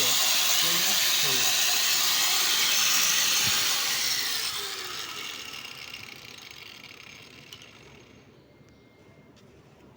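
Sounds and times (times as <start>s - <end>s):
power tool motor winding down: 0.0s - 8.3s.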